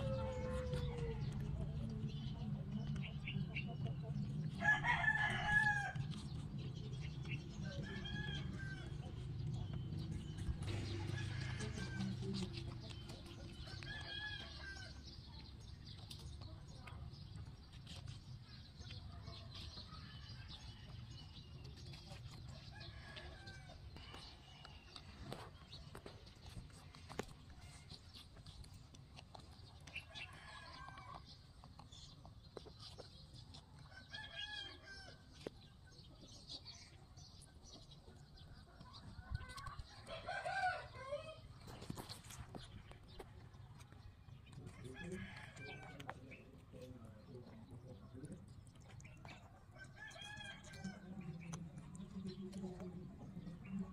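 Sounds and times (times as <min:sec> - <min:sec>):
rabbits chewing watermelon: 0:00.0 - 0:53.9.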